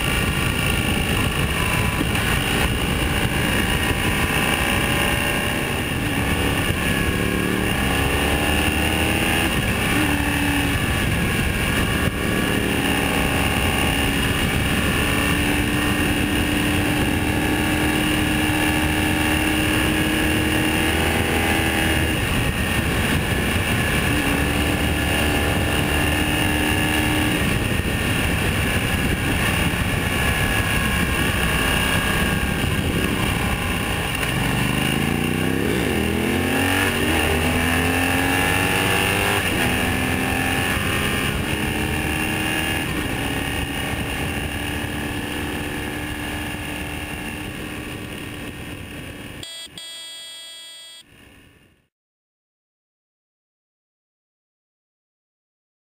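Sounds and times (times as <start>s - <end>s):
motorcycle engine revving: 0.0s - 51.4s
wind and road noise: 0.0s - 51.9s.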